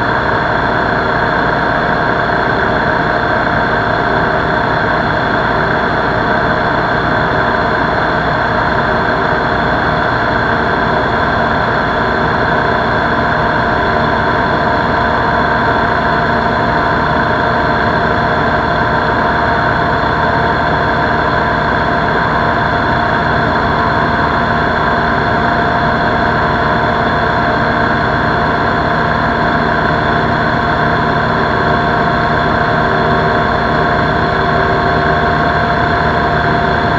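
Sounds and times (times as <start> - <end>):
light aircraft engine and propeller: 0.0 - 36.9.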